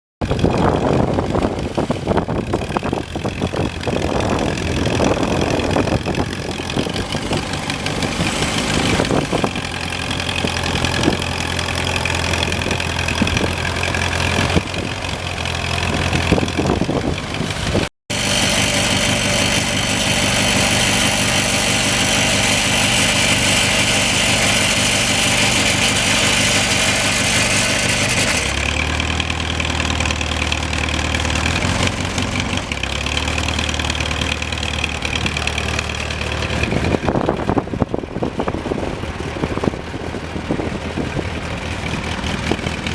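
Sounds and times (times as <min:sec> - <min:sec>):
tractor engine running: 0:00.2 - 0:42.9.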